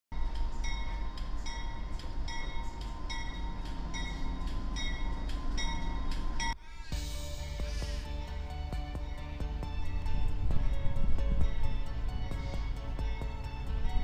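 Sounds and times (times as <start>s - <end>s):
train rumble: 0.2s - 14.0s.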